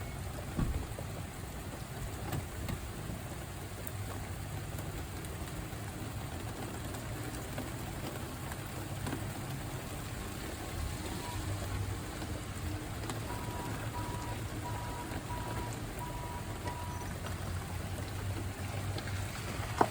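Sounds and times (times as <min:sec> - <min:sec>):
raindrop ticks: 0:00.0 - 0:19.9
steady rain: 0:00.0 - 0:19.9.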